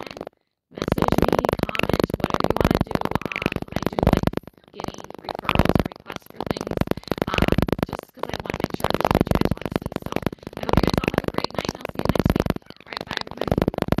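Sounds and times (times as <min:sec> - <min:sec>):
woman talking: 0:00.0 - 0:13.8.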